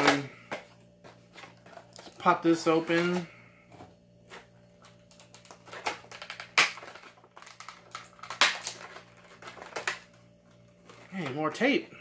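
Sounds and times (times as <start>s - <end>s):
plastic packaging crackling: 1.1s - 3.4s, 4.2s - 11.8s.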